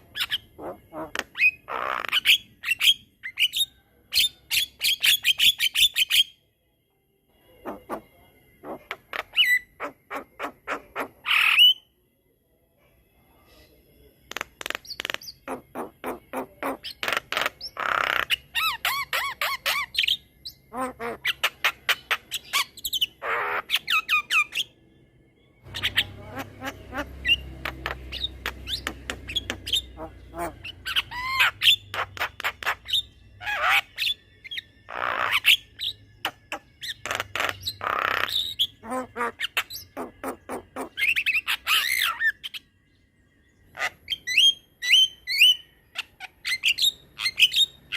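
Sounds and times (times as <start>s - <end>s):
myna bird singing: 0.0s - 6.4s, 7.6s - 11.9s, 14.3s - 24.8s, 25.4s - 47.9s.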